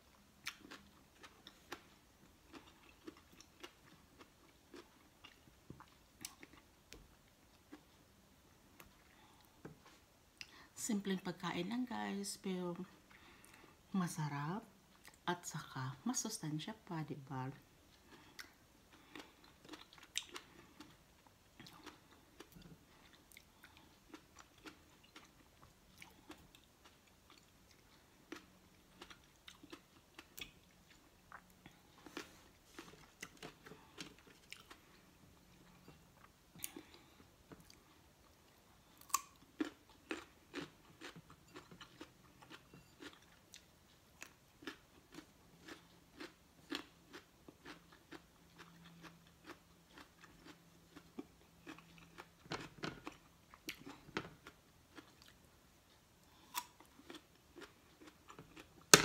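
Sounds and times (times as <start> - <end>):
person chewing and crunching: 0.0 - 8.1, 17.9 - 59.0.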